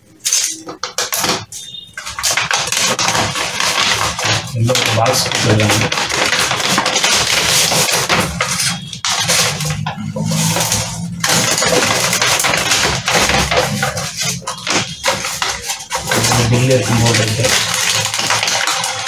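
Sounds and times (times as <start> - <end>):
paper mailer crinkling and rustling: 0.2 - 19.0.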